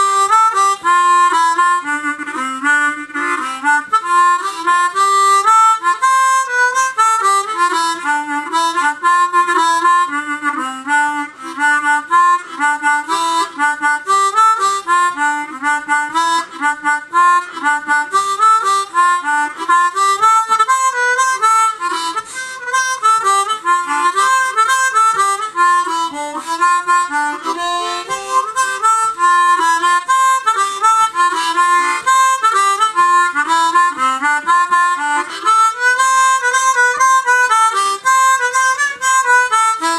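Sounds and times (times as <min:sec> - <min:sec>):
harmonica quick short notes: 0:00.0 - 0:39.9.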